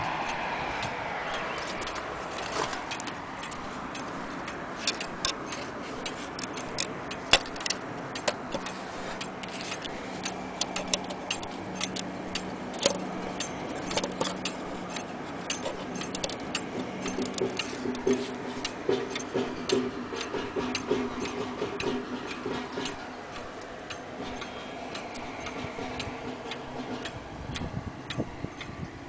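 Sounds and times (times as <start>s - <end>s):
wall clock ticking: 0.0s - 28.9s.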